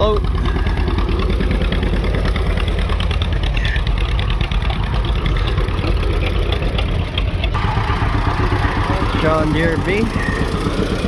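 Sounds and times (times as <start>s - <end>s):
vehicle engine running loudly: 0.0s - 11.0s.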